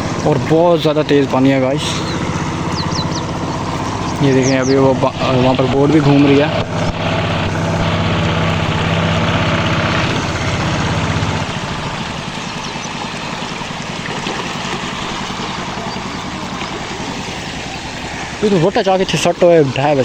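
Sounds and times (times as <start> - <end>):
motorboat engine running: 0.0 - 20.0
rushing floodwater: 0.0 - 20.0.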